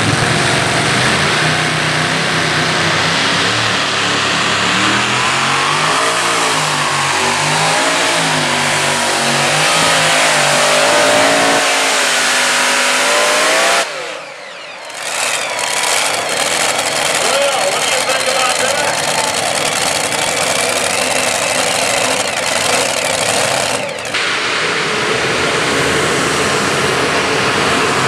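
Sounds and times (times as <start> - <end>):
pulling tractor engines at full power: 0.0 - 28.0.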